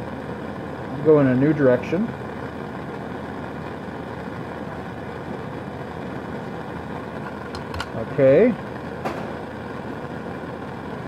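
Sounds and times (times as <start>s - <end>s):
gas burner flame roaring: 0.0s - 11.0s.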